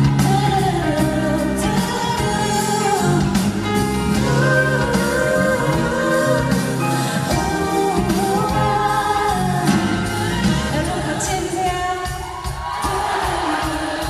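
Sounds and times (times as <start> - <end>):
instrumental accompaniment: 0.0 - 12.2
woman singing pop song live: 0.0 - 14.0.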